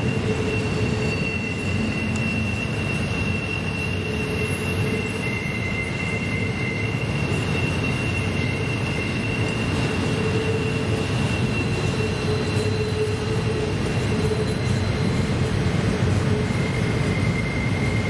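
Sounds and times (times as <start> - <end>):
high wheel squeal: 0.0 - 18.0
train wheels rumbling on rail: 0.0 - 18.0.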